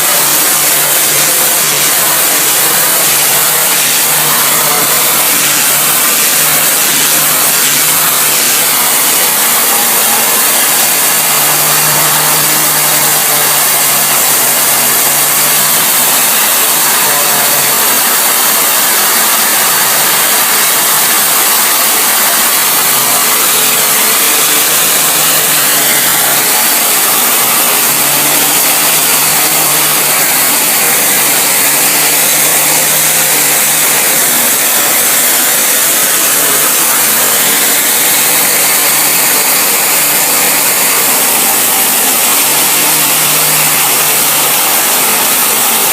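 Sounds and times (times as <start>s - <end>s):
cleaning machine hissing: 0.0s - 45.9s.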